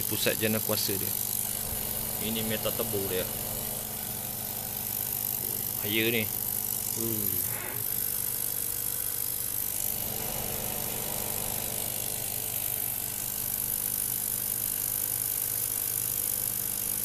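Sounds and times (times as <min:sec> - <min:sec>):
laser cutter humming and hissing: 0:00.0 - 0:17.0.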